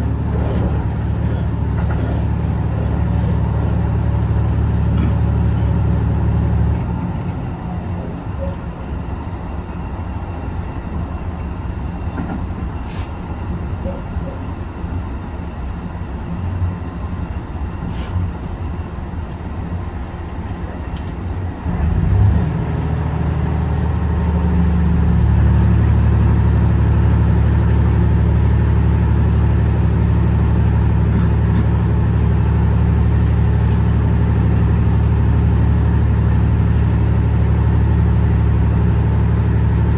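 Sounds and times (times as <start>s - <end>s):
railcar engine drone: 0.0s - 39.9s.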